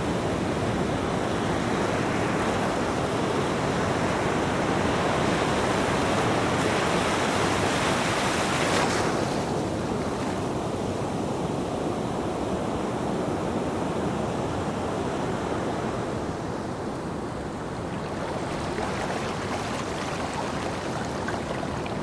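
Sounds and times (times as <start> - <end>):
sea waves breaking on beach: 0.0 - 11.2, 14.3 - 22.0.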